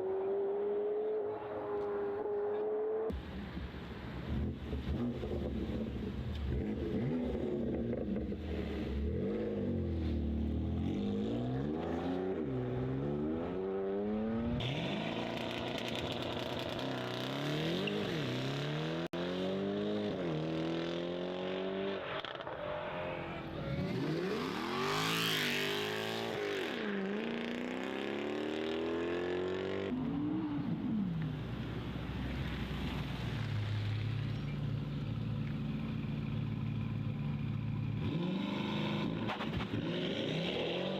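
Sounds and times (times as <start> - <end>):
car engines revving: 0.0 - 3.6, 4.2 - 40.9.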